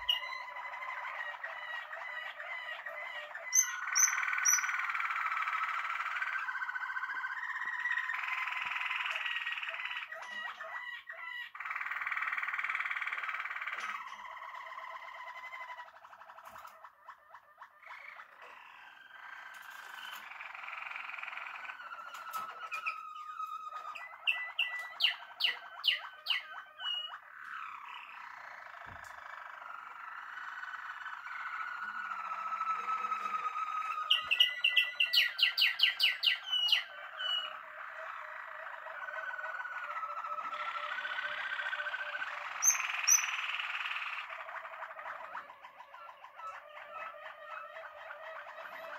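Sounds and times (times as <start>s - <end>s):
canaries singing trills: 0.0s - 48.9s.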